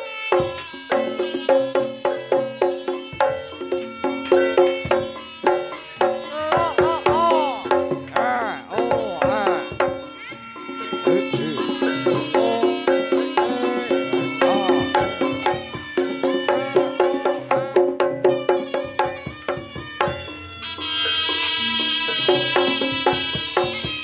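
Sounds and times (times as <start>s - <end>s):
hand drum strokes: 0.0s - 24.0s.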